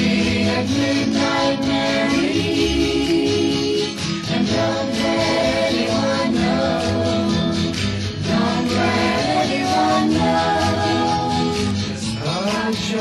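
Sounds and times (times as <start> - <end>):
pop band with backing voices: 0.0 - 13.0.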